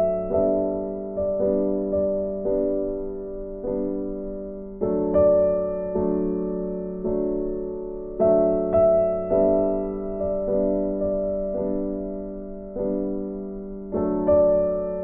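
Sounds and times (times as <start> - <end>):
soft keyboard music: 0.0 - 15.0.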